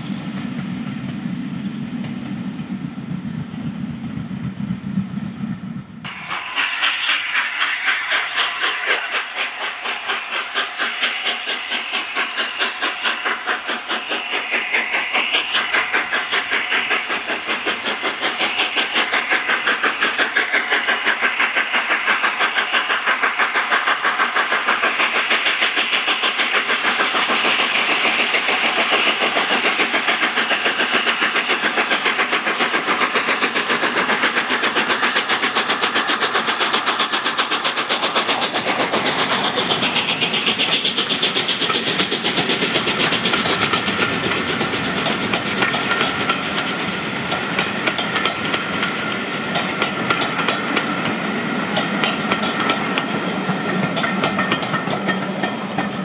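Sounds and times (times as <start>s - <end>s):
train wheels running: 0.0s - 5.1s, 6.0s - 56.0s
steam locomotive exhaust beats: 0.0s - 56.0s.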